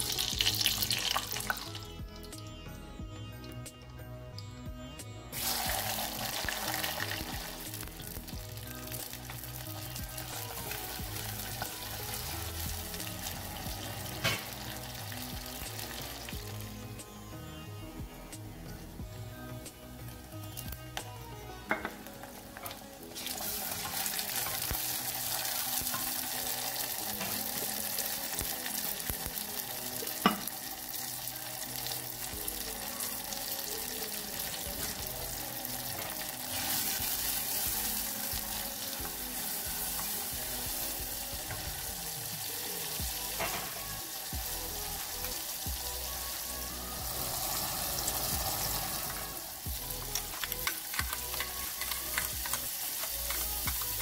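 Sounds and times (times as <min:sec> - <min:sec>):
vegetables sizzling in oil: 0:00.0 - 0:02.4, 0:05.3 - 0:16.7, 0:20.1 - 0:54.0.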